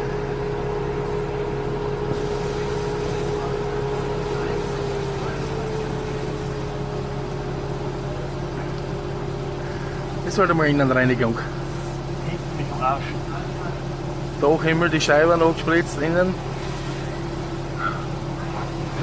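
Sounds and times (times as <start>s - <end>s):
pressure washer droning: 0.0s - 19.0s.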